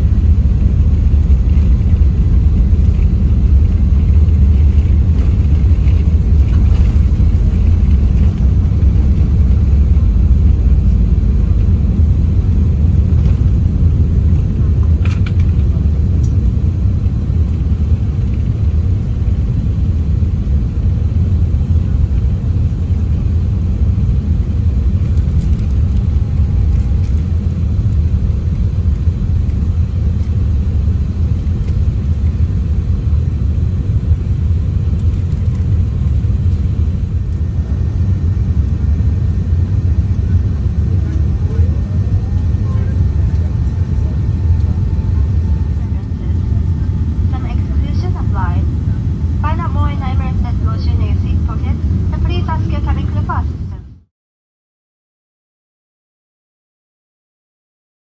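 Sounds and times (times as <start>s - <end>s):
airplane cabin engine rumble: 0.0s - 54.1s.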